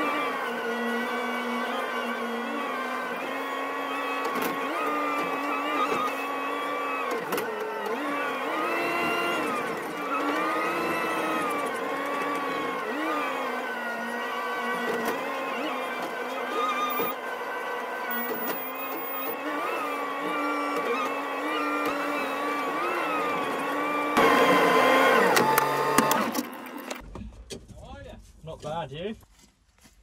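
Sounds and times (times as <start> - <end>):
telehandler engine revving: 0.0 - 27.0.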